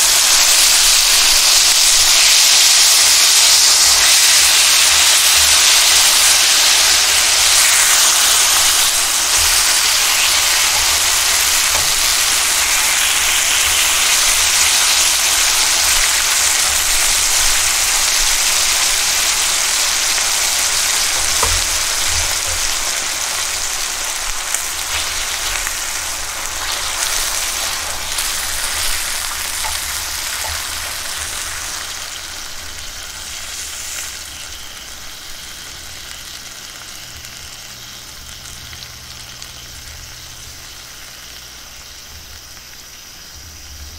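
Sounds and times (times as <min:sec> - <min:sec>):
meat sizzling in a wok: 0:00.0 - 0:43.9.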